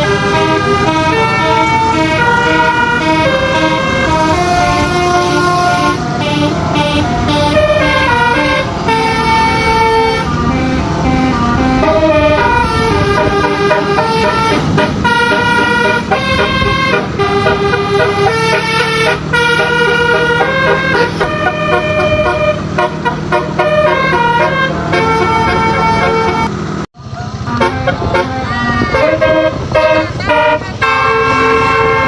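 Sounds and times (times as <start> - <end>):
bus horn playing a tune: 0.0 - 26.7, 27.3 - 32.0.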